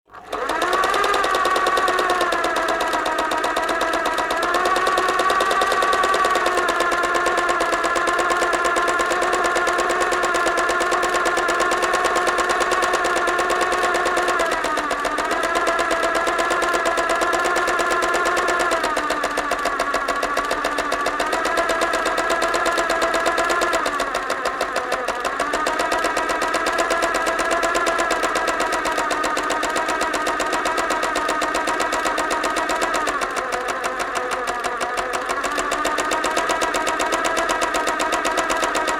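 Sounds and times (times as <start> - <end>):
sewing machine running fast: 0.1 - 38.9.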